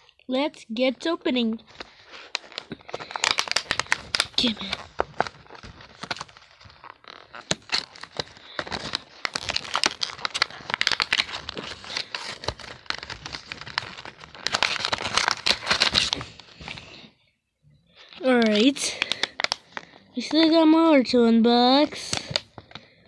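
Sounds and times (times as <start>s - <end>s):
plastic packaging crinkling and tearing: 1.6s - 17.0s, 18.0s - 20.7s, 21.8s - 23.0s.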